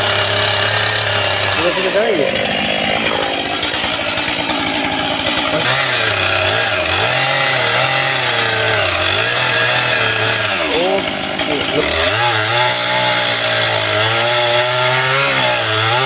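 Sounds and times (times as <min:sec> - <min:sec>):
chainsaw cutting into tree: 0:00.0 - 0:16.0.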